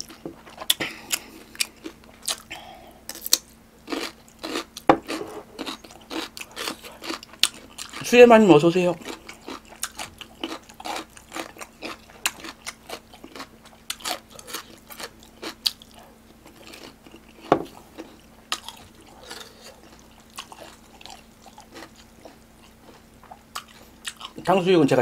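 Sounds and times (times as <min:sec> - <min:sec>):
close chewing with crunches: 0:00.0 - 0:24.4.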